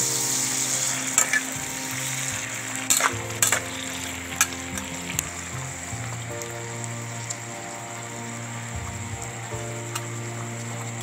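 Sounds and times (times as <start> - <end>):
food sizzling in a frying pan: 0.0 - 9.0.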